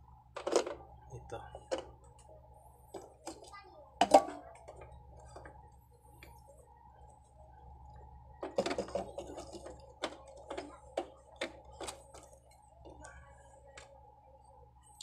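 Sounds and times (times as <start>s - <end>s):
faint steady hum: 0.0s - 15.0s
cables and connectors rattling: 0.3s - 14.1s.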